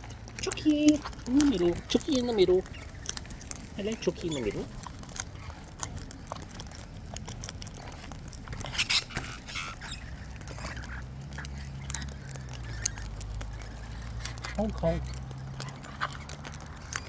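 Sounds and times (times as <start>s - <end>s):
birds pecking seed: 0.0s - 17.0s.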